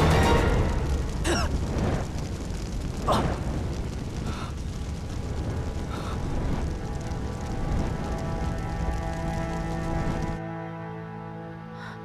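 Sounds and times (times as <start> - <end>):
deep explosion rumble: 0.0 - 10.4.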